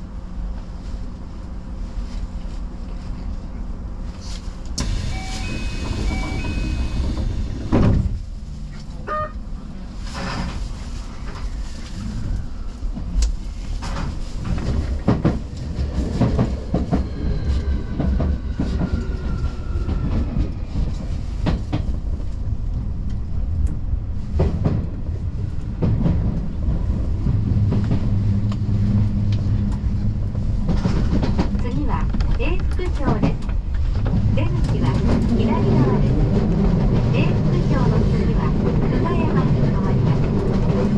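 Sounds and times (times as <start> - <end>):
train rumble: 0.0 - 40.9.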